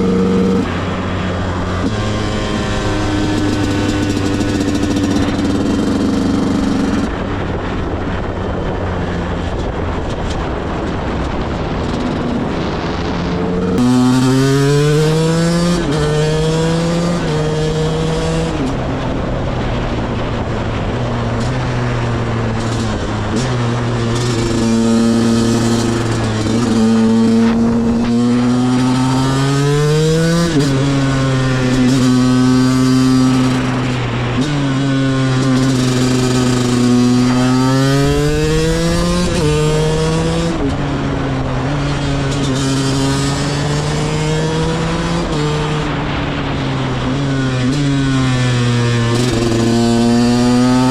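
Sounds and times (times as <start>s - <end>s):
two-stroke motorcycle engine revving: 0.0s - 8.3s, 9.4s - 50.9s.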